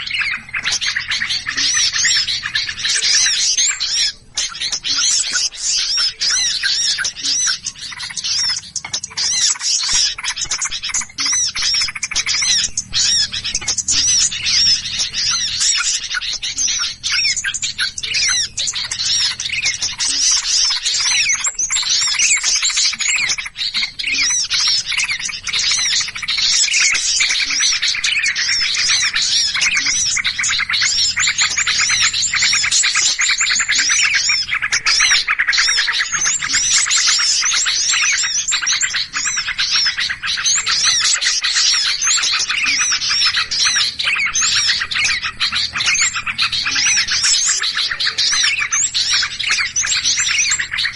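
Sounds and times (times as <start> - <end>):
songbird flock chirping: 0.0 - 50.9.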